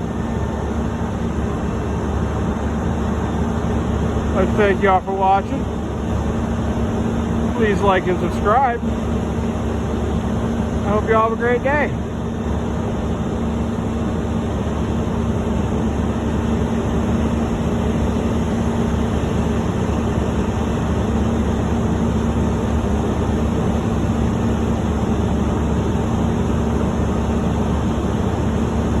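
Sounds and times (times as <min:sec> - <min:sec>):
diesel truck engine humming: 0:00.0 - 0:29.0.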